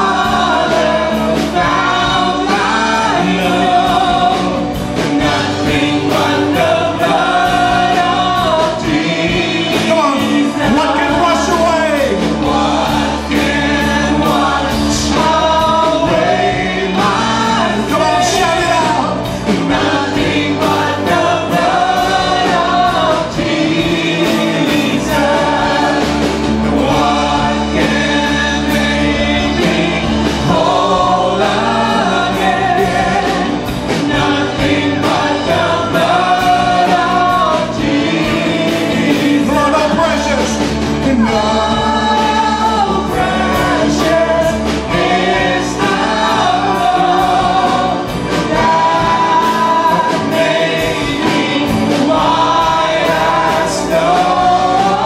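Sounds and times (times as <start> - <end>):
choir singing a hymn: 0.0 - 55.0
electric guitar: 0.0 - 55.0.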